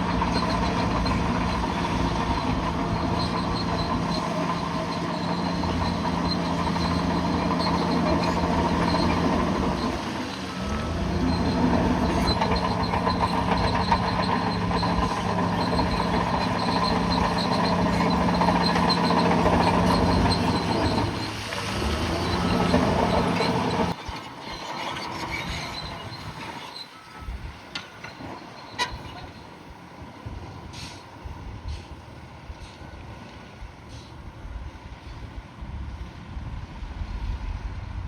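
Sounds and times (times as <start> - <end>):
bulldozer diesel engine: 0.0 - 38.0.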